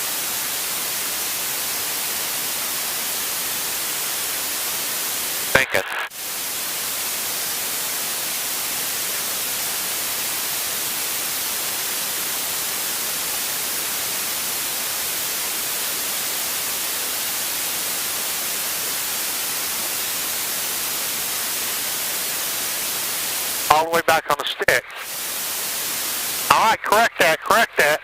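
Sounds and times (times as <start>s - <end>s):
steady static hiss: 0.0s - 28.0s.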